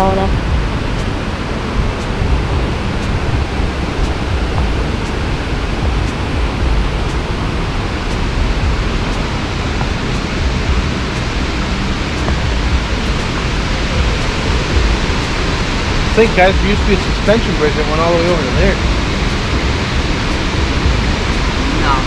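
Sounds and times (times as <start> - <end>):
waterfall rushing: 0.7 - 21.9.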